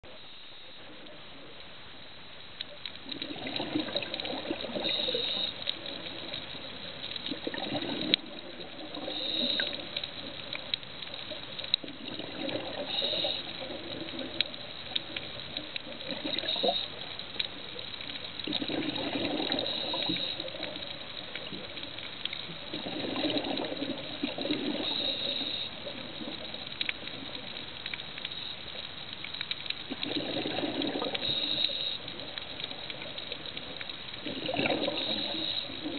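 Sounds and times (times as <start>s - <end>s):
exhaled bubbles gurgling: 2.9s - 35.9s.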